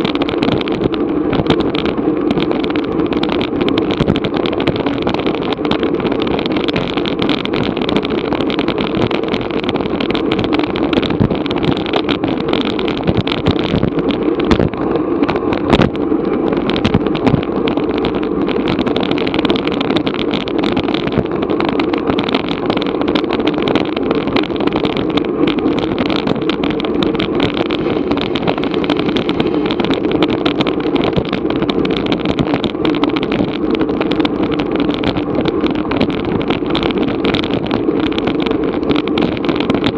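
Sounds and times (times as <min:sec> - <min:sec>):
road noise: 0:00.0 - 0:39.9
small clicks and rattles: 0:00.0 - 0:39.9
wind rush: 0:00.0 - 0:39.9.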